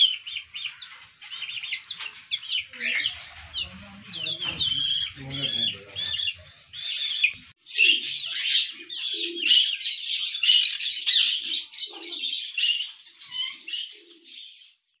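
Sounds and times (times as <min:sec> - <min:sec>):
chicks peeping and chirping: 0:00.0 - 0:15.0.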